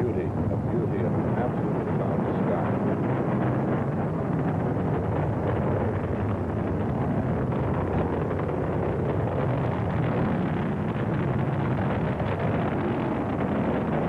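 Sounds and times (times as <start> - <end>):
crackle: 0.0 - 14.0
rocket engines roaring: 0.0 - 14.0.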